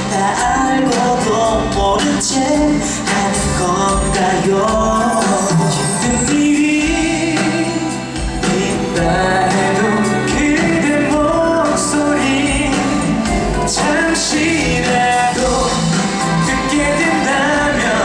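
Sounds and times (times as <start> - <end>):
instrumental backing music: 0.0 - 18.0
man singing into microphone: 0.0 - 18.0.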